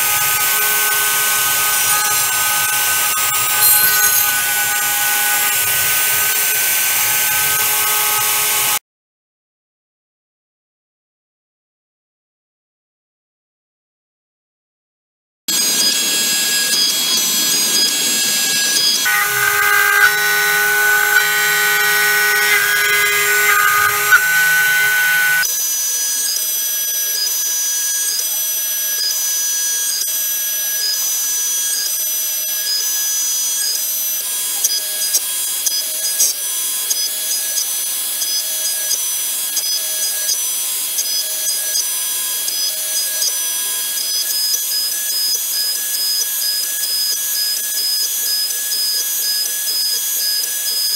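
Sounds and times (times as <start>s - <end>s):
router spindle whining: 0.0s - 8.8s, 15.5s - 50.9s.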